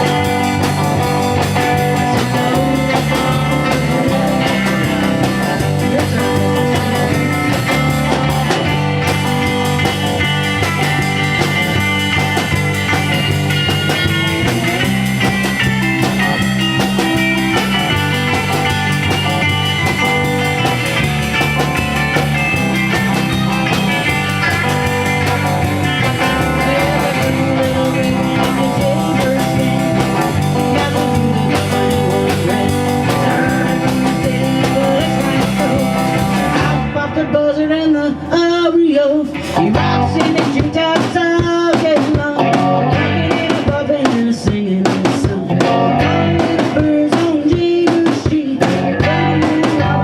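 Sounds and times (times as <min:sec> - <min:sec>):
drum kit: 0:00.0 - 0:37.2, 0:39.2 - 0:50.0
bass guitar: 0:00.0 - 0:50.0
electric guitar: 0:00.0 - 0:50.0.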